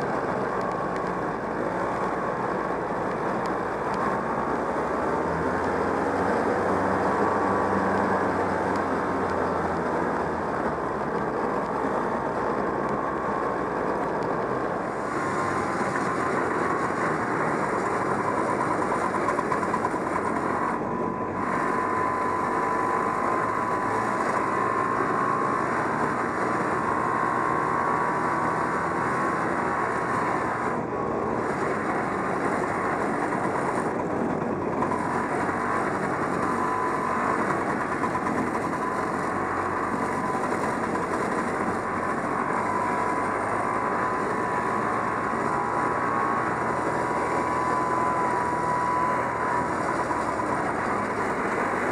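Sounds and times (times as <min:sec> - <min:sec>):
snowmobile engine running: 0:00.0 - 0:51.9.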